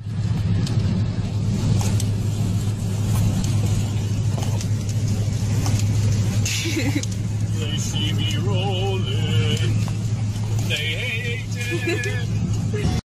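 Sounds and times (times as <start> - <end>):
engine and road drone: 0.0 - 13.0
wind and rain rushing: 0.0 - 13.0.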